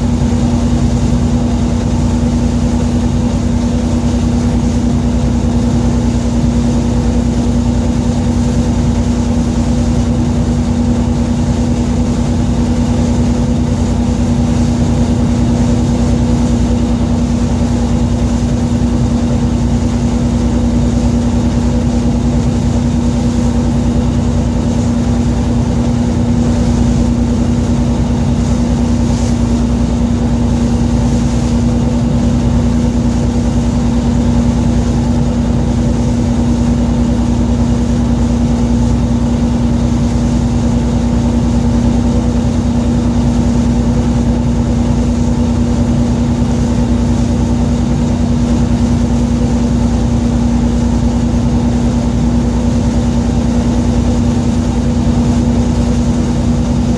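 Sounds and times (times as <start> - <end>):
boat engine rumbling: 0.0 - 56.9.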